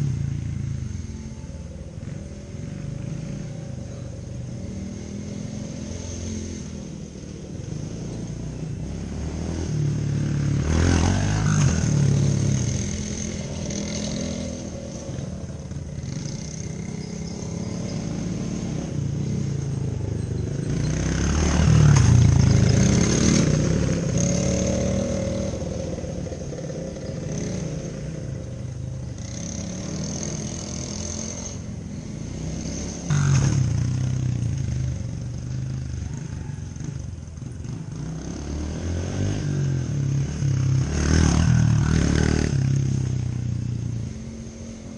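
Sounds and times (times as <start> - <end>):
engine revving: 0.0 - 44.9
off-road engines running: 0.0 - 44.9.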